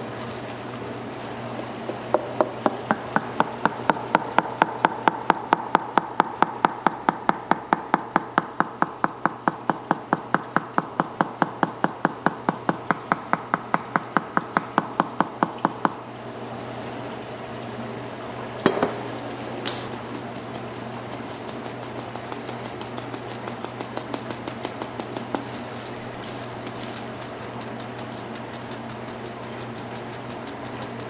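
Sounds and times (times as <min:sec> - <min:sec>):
rapid mechanical clicks: 0:00.0 - 0:16.0, 0:19.6 - 0:31.0.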